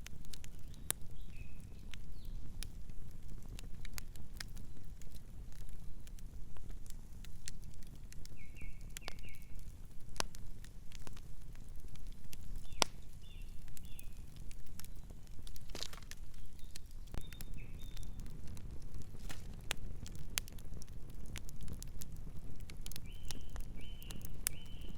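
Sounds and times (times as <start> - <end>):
campfire crackling and popping: 0.0 - 24.9.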